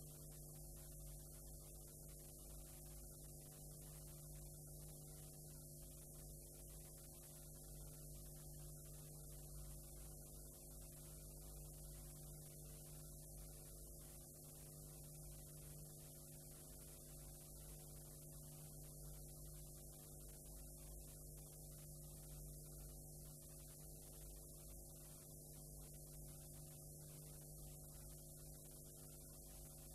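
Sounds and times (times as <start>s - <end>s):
faint electrical hum with hiss: 0.0s - 29.9s.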